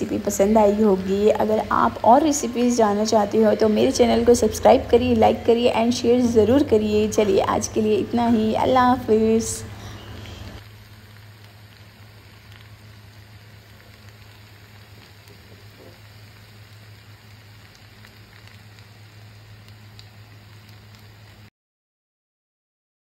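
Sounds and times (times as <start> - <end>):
low hum: 0.0 - 21.0
sauce sizzling in a pan: 0.0 - 21.5.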